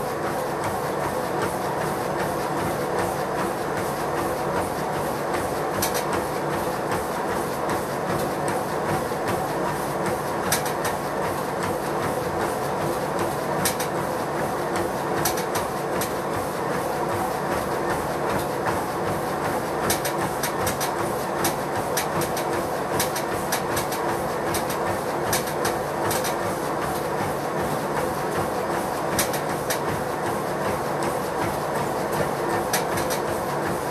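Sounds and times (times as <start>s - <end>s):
footfalls on treadmill: 0.0s - 33.9s
treadmill belt and motor rumble: 0.0s - 33.9s.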